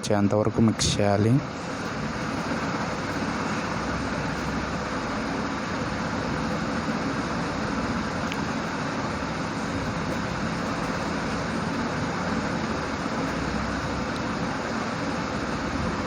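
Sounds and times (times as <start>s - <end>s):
constant rushing hum: 0.0s - 16.0s.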